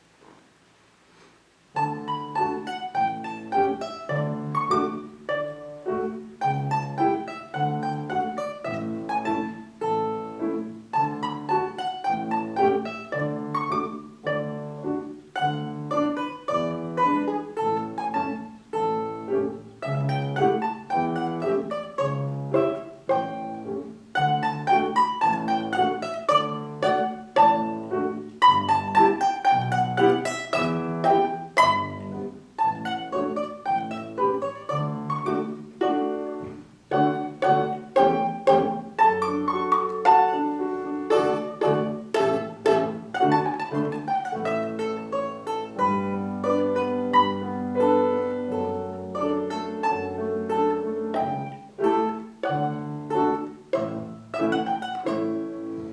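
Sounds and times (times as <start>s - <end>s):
plucked string instrument tune: 1.6s - 55.9s.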